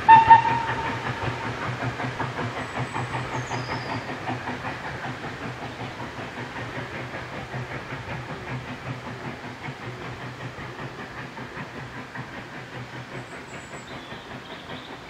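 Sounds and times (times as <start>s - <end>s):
steam hiss: 0.0s - 15.0s
steam train rumble and clatter: 0.0s - 15.0s.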